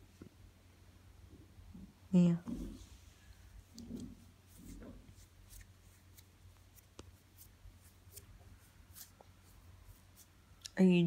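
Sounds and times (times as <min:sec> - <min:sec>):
steady low hum: 0:00.0 - 0:11.0
faint clicks and rustles: 0:01.3 - 0:10.8.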